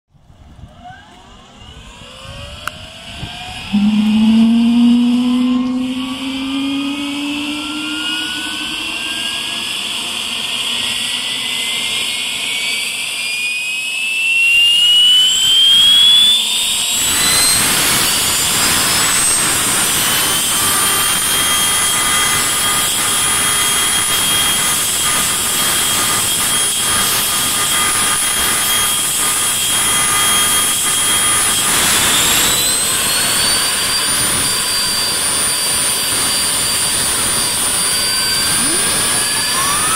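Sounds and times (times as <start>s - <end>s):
jet engine whine: 0.1s - 39.9s.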